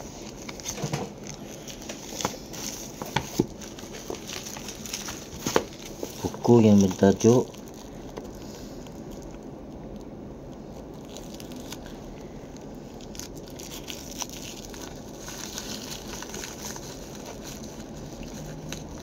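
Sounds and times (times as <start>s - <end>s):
plastic wrapping crinkling and tearing: 0.0s - 19.0s.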